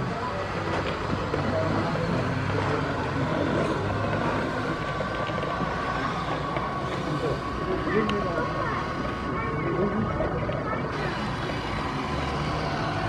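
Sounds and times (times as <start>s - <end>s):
faint murmur of voices: 0.0s - 13.0s
model truck running: 0.0s - 13.0s.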